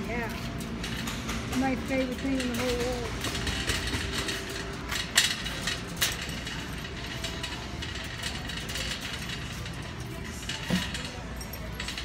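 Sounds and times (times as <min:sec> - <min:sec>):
shopping cart rolling and rattling: 0:00.0 - 0:12.0.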